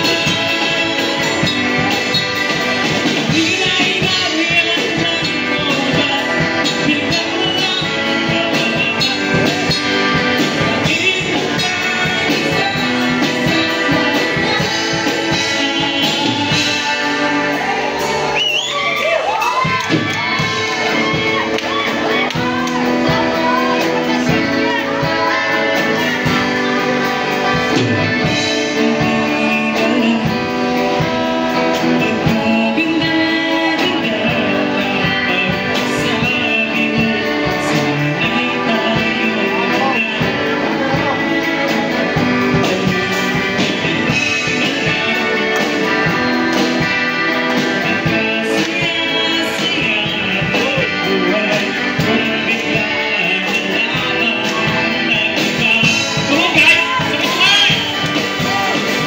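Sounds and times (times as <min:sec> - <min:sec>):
drums: 0:00.0 - 0:59.0
guitar: 0:00.0 - 0:59.0
person singing: 0:00.0 - 0:59.0.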